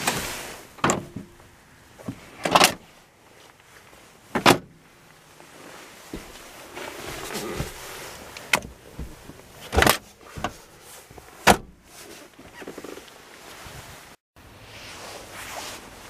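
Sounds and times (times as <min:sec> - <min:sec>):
car seat rustling: 0:00.0 - 0:16.0.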